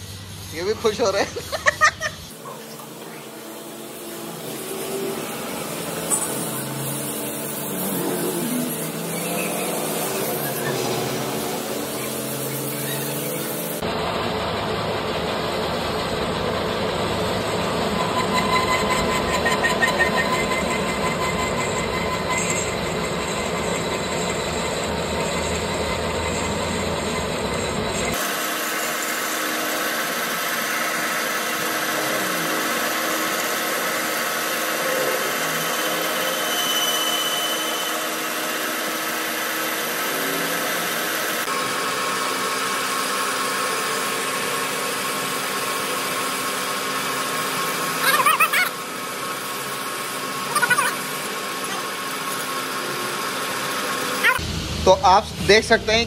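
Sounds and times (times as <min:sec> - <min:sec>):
lathe cutting metal: 0:02.3 - 0:55.6.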